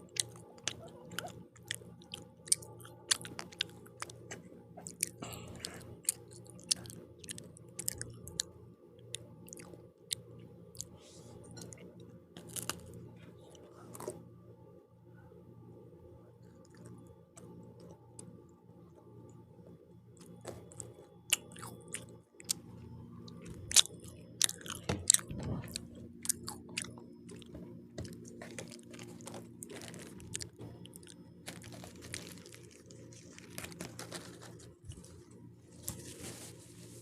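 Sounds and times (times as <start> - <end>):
chewing crunchy pizza crust: 0.0 - 14.3, 16.4 - 18.4, 20.2 - 37.0
steady low hum: 0.0 - 37.0.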